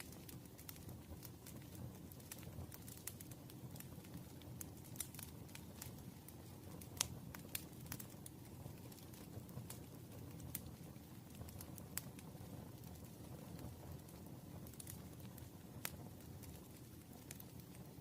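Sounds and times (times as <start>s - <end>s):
low rumble of burning: 0.0s - 18.0s
wood fire crackling and popping: 0.0s - 18.0s.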